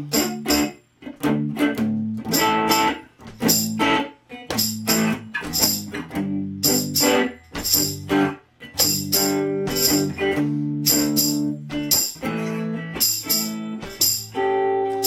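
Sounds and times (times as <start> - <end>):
electric guitar strumming chords: 0.0 - 15.0.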